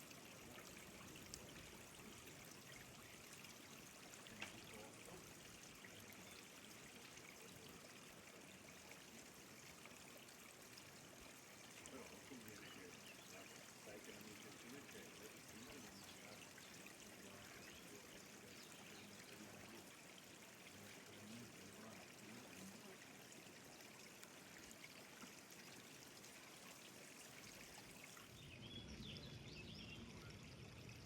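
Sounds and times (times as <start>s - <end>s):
running water of stream: 0.0s - 31.0s.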